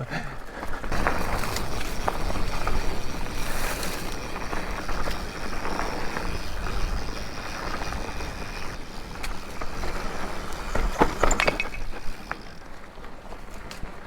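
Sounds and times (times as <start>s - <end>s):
bike clicks and rattles: 0.0s - 14.0s
bike tyres on dirt trail: 0.0s - 14.0s.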